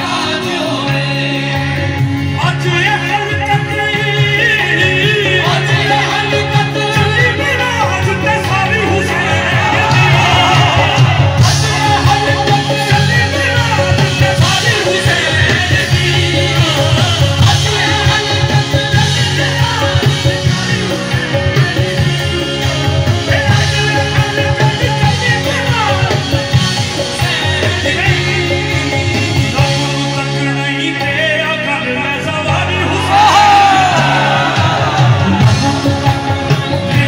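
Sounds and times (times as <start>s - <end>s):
devotional singing over instruments: 0.0s - 37.0s.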